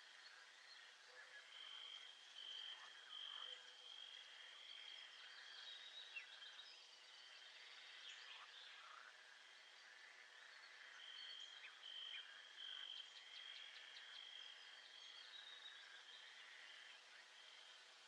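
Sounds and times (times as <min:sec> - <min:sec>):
soft outdoor hiss: 0:00.0 - 0:18.0.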